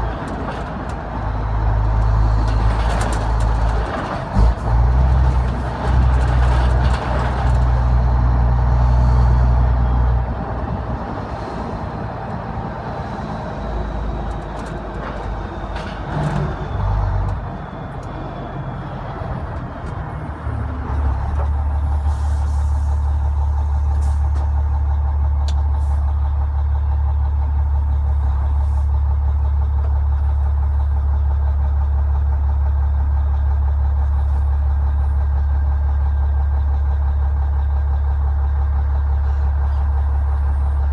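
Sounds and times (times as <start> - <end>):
diesel truck engine: 0.0 - 40.9.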